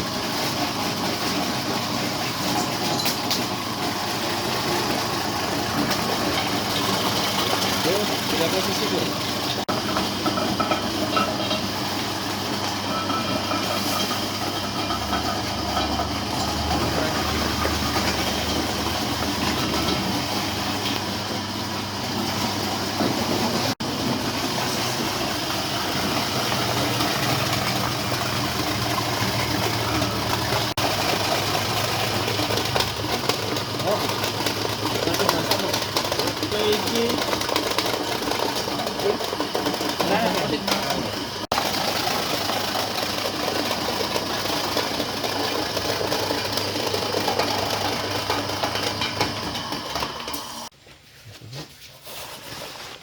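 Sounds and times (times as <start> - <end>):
shredding machine rattling: 0.0 - 50.7.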